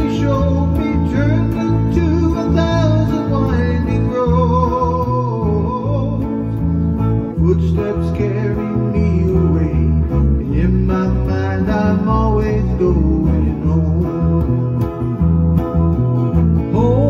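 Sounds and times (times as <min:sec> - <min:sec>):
electric bass line: 0:00.0 - 0:17.0
guitar strumming: 0:00.0 - 0:17.0.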